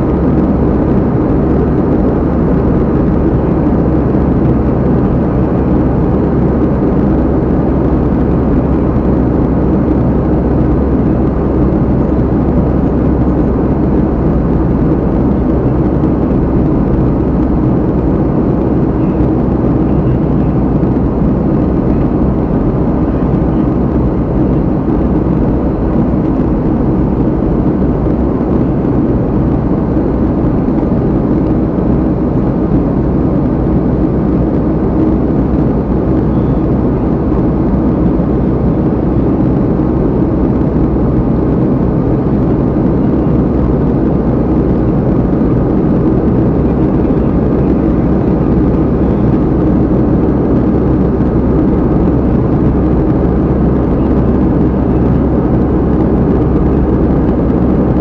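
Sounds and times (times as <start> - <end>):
vehicle engine drone from inside: 0.0 - 58.0.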